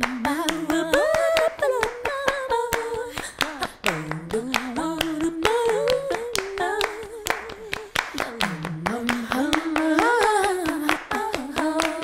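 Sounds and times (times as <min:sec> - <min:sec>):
rhythmic handclaps: 0:00.0 - 0:12.0
woman singing wordless notes: 0:00.0 - 0:12.0.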